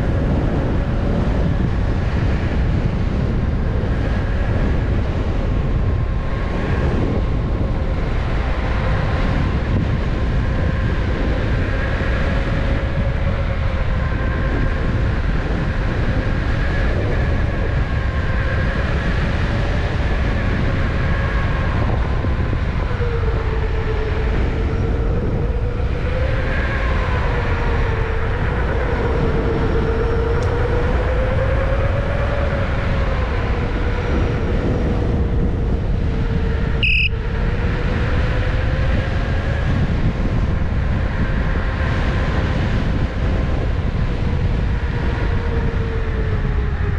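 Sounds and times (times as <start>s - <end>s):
road noise: 0.0s - 46.9s
wind rumble on microphone: 0.0s - 46.9s.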